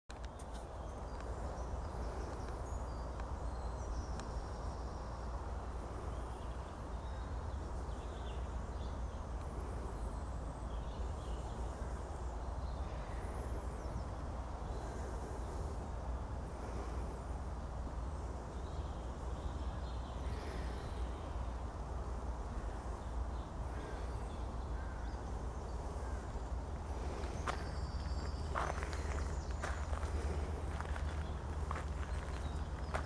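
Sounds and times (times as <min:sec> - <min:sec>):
low rumble and hiss: 0:00.1 - 0:33.0
small birds singing: 0:00.1 - 0:33.0.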